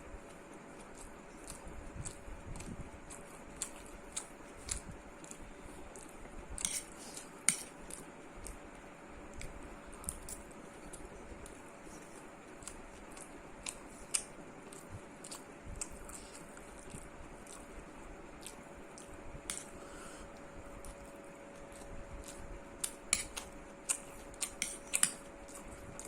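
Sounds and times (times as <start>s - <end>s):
faint steady hum: 0.0s - 26.0s
person chewing food: 0.2s - 26.0s.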